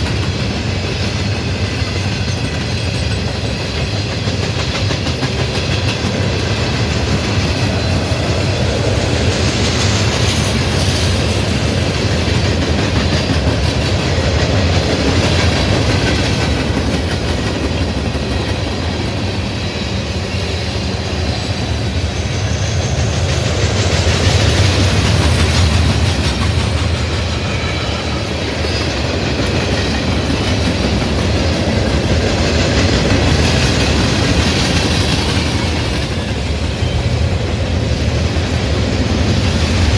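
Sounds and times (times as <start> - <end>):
train cars rumbling past: 0.0 - 39.9
train wheel clatter: 0.0 - 39.9.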